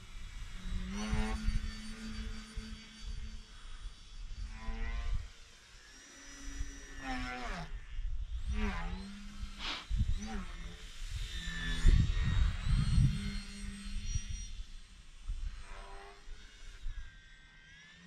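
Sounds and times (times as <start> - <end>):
wind rumbling on microphone: 0.0 - 5.5, 6.4 - 17.1
model plane motor droning: 0.0 - 18.0.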